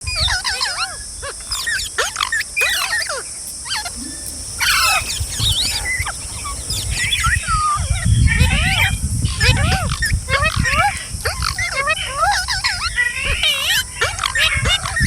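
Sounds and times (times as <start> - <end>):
parrots squawking: 0.0 - 15.0
steady high hiss: 0.0 - 15.0.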